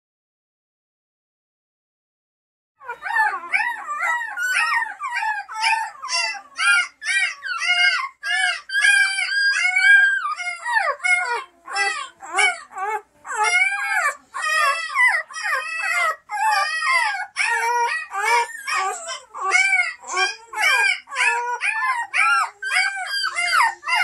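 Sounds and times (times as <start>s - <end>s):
puppy crying: 2.8s - 24.0s.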